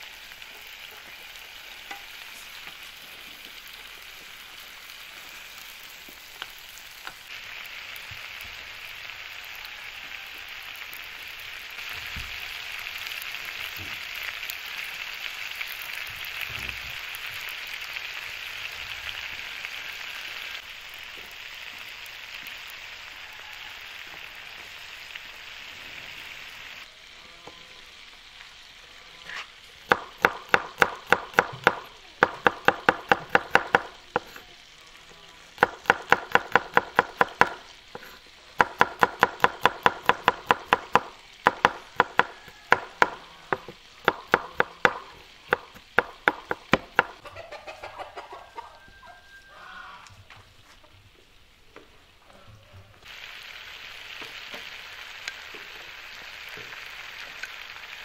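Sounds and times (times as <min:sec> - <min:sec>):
chicken frying in oil: 0:00.0 - 0:49.5, 0:53.0 - 0:58.0.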